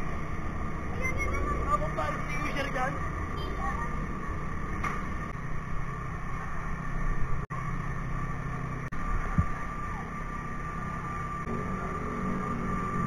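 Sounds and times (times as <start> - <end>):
engine droning: 0.0 - 13.0
high whine: 0.0 - 13.0.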